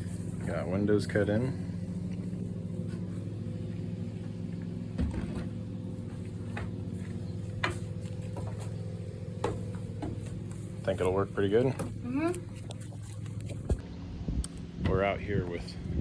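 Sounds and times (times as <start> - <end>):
motor hum: 0.0 - 14.8.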